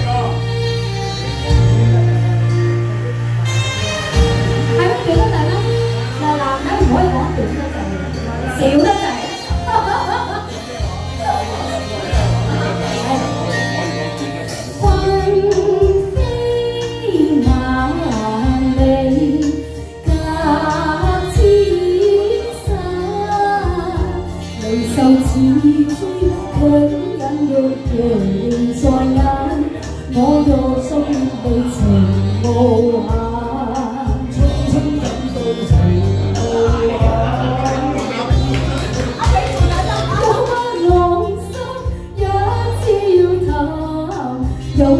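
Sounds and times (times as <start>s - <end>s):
backing track with bass line: 0.0s - 44.9s
woman singing into microphone: 0.0s - 44.9s.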